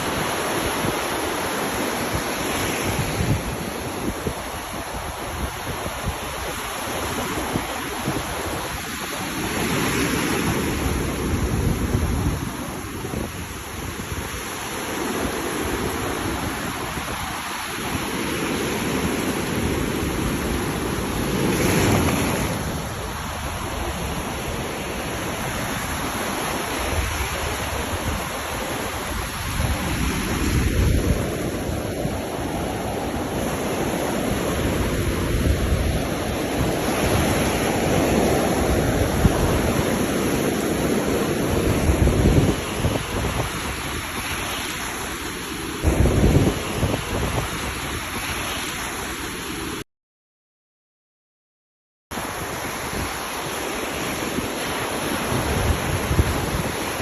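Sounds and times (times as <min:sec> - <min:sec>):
ocean surf breaking: 0:00.0 - 0:49.8, 0:52.2 - 0:57.0.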